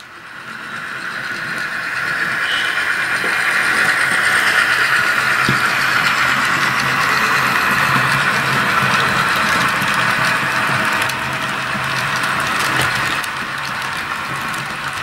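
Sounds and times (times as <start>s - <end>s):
model train diesel engine sound: 0.0s - 15.0s
wheels clicking on track: 0.0s - 15.0s.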